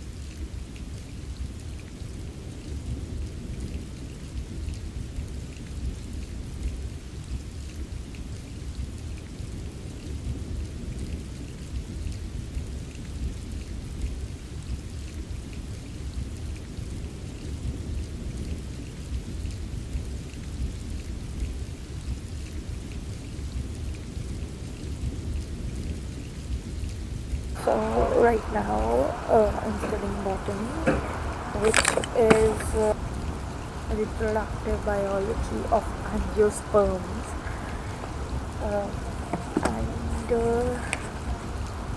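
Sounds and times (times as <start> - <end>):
low rumble of thunder: 0.0 - 41.9
rain hissing: 0.0 - 41.9.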